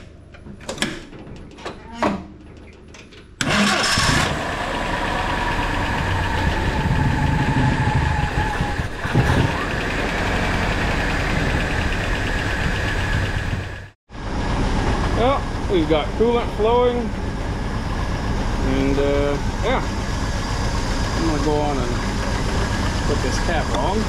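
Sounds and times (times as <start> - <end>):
engine starting and running: 2.4 - 24.0.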